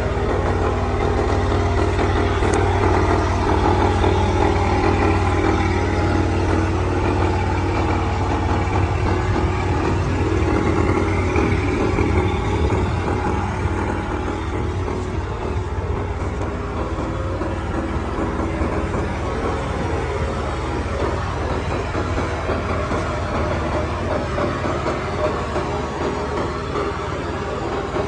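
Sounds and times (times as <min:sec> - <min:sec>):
diesel engine running: 0:00.0 - 0:28.0
mechanical machinery noise: 0:00.0 - 0:28.0.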